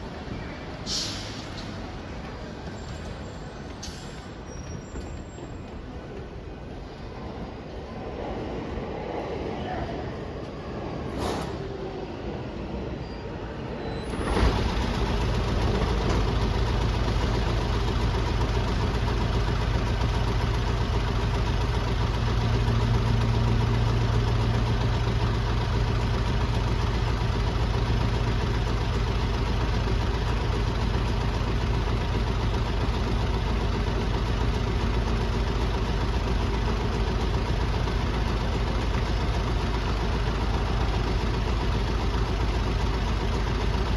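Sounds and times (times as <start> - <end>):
diesel bus engine starting and idling: 0.0 - 7.8, 13.8 - 43.9.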